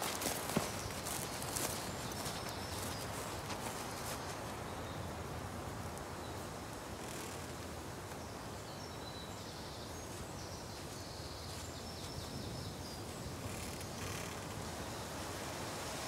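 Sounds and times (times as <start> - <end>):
steady soft forest hiss: 0.0 - 16.0.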